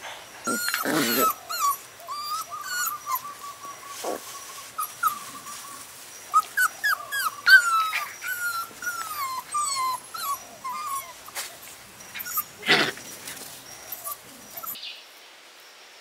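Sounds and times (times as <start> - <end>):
dog whining and whimpering: 0.4 - 14.8.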